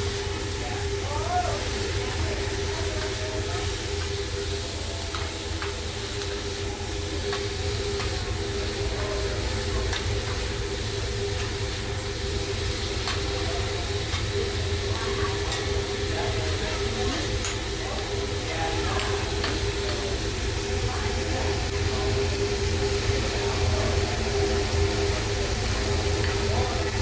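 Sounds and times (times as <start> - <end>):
constant hum: 0.0 - 27.0
food sizzling on hot plate: 0.0 - 27.0.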